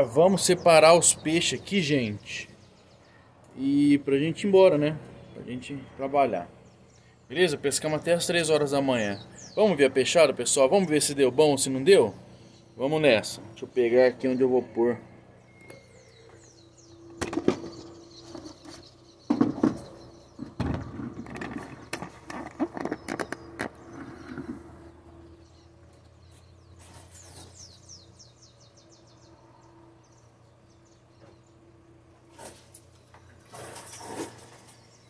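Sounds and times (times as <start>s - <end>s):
bird chirping: 0.0s - 35.0s.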